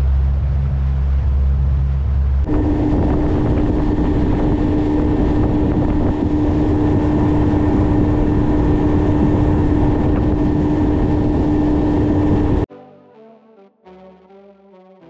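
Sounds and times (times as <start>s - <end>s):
motorboat engine drone: 0.0s - 12.7s
rushing wind and water: 0.0s - 12.7s.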